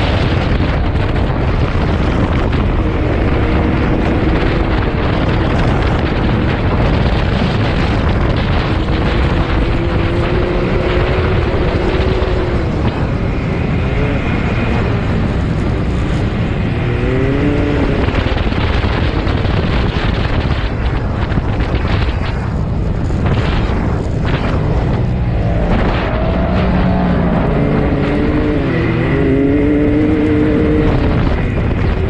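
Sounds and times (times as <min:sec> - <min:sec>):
utility vehicle engine revving: 0:00.0 - 0:20.4, 0:23.0 - 0:32.0
wind and driving rumble: 0:00.0 - 0:32.0.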